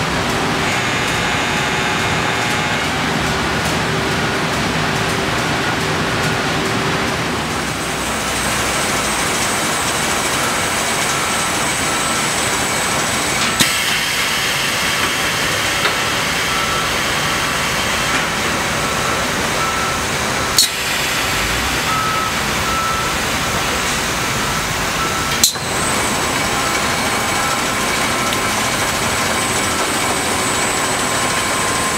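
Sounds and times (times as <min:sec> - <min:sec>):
machine noise: 0:00.0 - 0:31.9.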